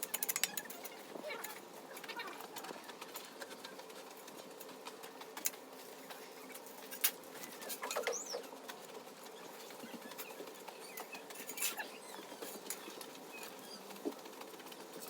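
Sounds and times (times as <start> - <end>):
light clicks and scrapes: 0.0 - 15.0.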